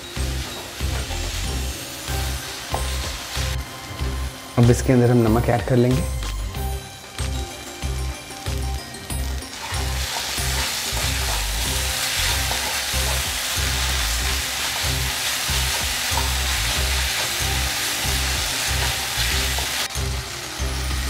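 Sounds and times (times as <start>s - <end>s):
background music beat: 0.0s - 21.0s
vegetables sizzling in oil: 0.0s - 21.0s.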